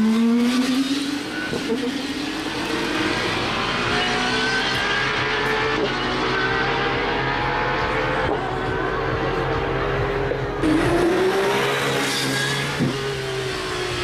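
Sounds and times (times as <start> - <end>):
car engine at high revs: 0.0 - 14.0.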